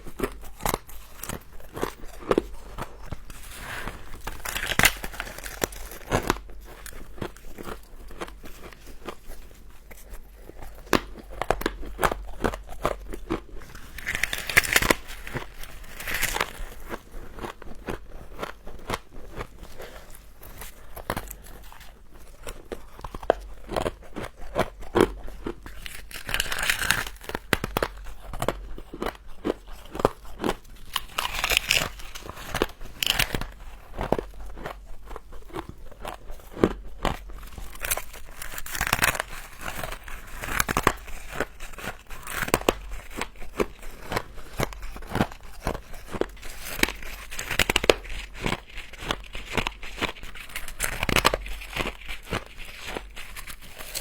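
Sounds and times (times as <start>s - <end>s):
chewing frost crunches: 0.0s - 54.0s.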